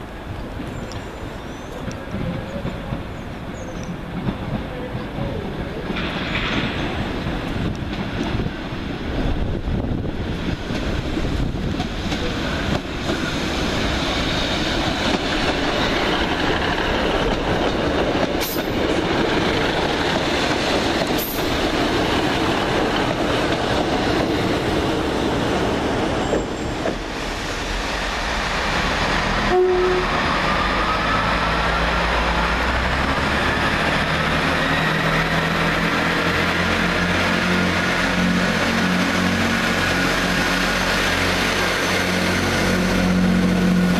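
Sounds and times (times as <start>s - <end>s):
diesel train engines running: 0.0s - 43.9s
wheels rumbling on track: 0.0s - 43.9s.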